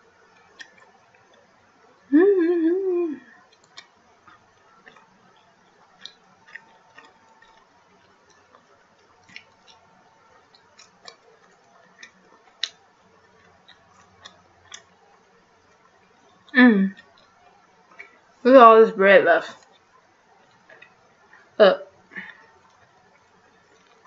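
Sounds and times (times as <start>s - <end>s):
chewing with wet clicks: 0.1s - 2.1s, 3.3s - 18.4s, 19.5s - 24.0s.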